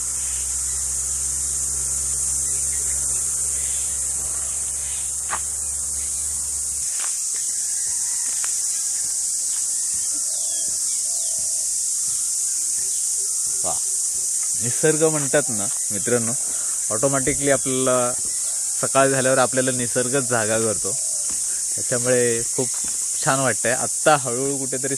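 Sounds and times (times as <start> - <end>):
faint bird calls: 0.0 - 23.3
insects droning: 0.0 - 24.9.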